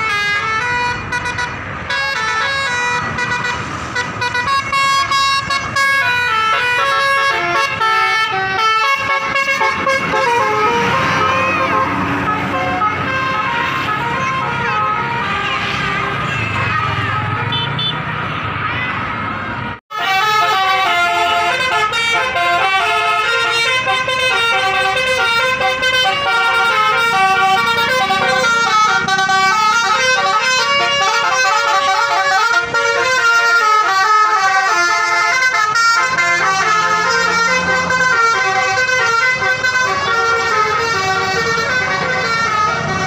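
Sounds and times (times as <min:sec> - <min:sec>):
bus multi-tone horn melody: 0:00.0 - 0:18.4, 0:19.5 - 0:43.0.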